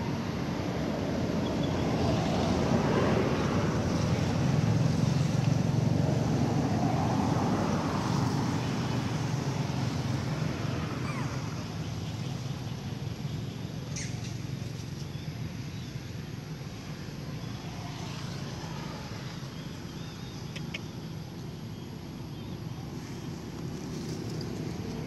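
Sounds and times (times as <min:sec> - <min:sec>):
low rumbling outdoor noise: 0:00.0 - 0:25.0.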